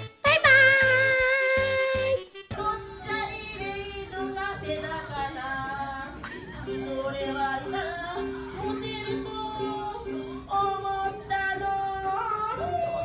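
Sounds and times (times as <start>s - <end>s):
ukulele plucking: 0.0s - 13.0s
woman singing: 0.0s - 13.0s.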